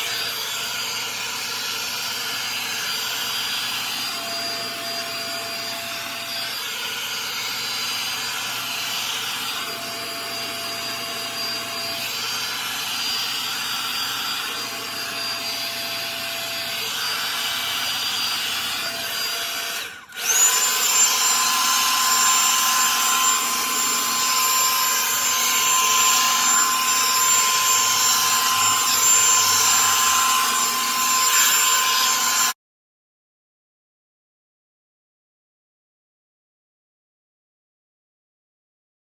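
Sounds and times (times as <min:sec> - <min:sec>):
hair dryer brush whining: 0:00.0 - 0:32.6.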